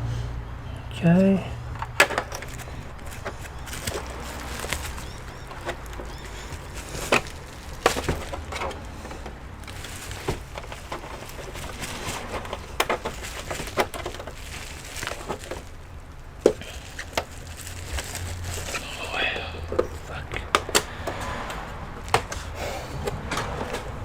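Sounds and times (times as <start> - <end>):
hands clicking on plastic casing: 1.8 - 15.7, 16.4 - 24.0.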